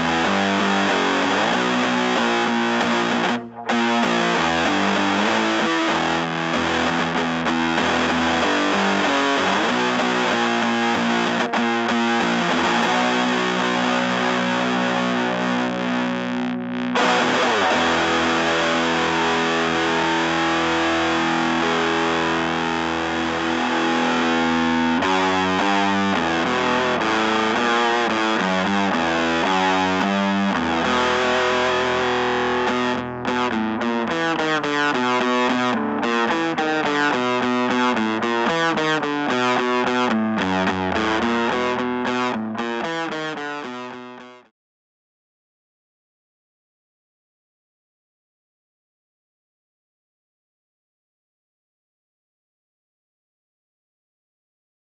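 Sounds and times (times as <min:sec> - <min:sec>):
distorted electric guitar: 0:00.0 - 0:44.5.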